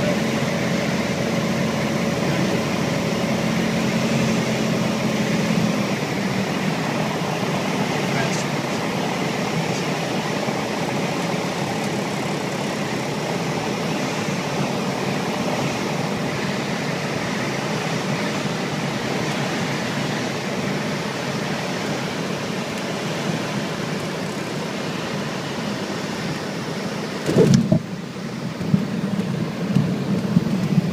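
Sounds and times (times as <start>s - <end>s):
propeller aircraft engine: 0.0s - 30.9s.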